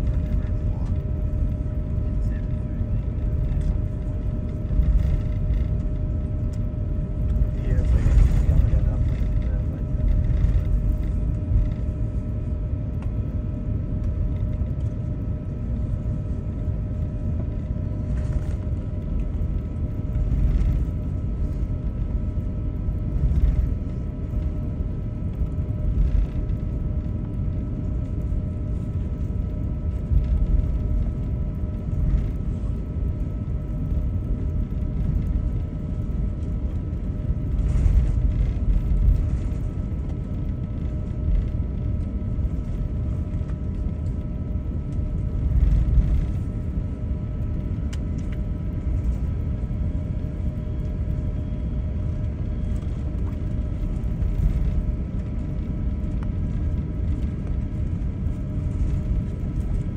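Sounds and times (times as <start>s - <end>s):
aircraft engines idling rumble: 0.0s - 59.9s.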